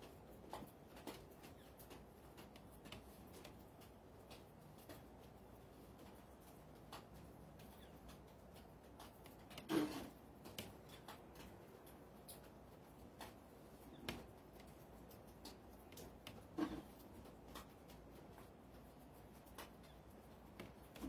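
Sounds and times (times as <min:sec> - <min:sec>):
light clicks and taps: 0:00.0 - 0:21.0.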